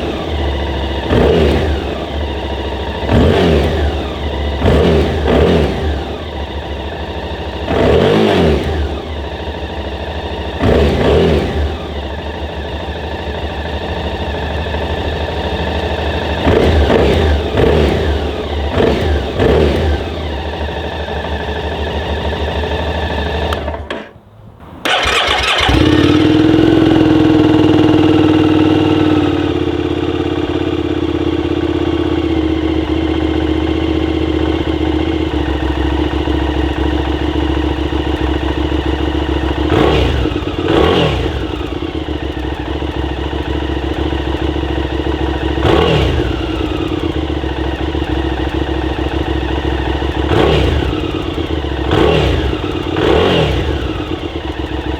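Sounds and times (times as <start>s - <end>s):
motorcycle engine idling: 0.0s - 24.2s, 24.8s - 54.9s
motorcycle revving: 0.0s - 24.2s, 24.8s - 54.9s.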